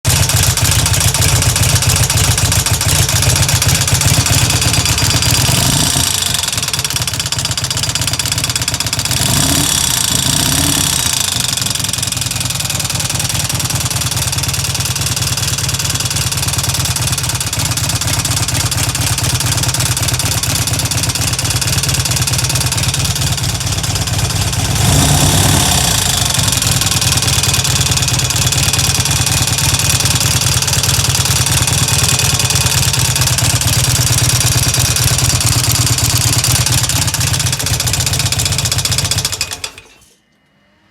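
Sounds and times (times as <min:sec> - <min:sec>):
motorcycle engine idling and revving: 0:00.0 - 0:40.1.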